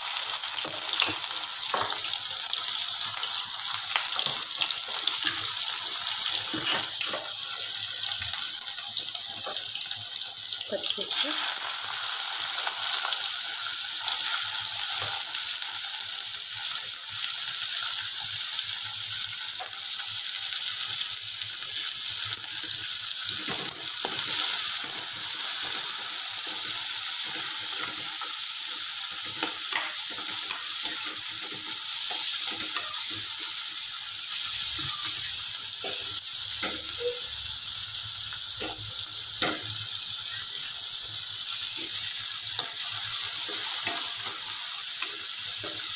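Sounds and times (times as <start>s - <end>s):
onions sizzling in hot oil: 0.0s - 45.9s.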